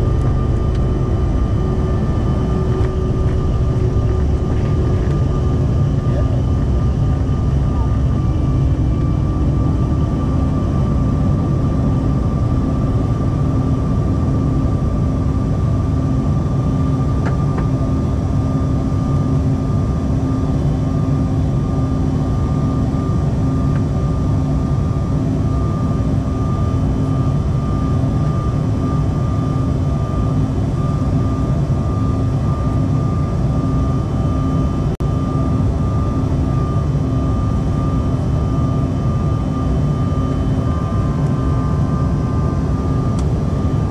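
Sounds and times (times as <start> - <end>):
jet engines rumbling with whine: 0.0 - 43.9.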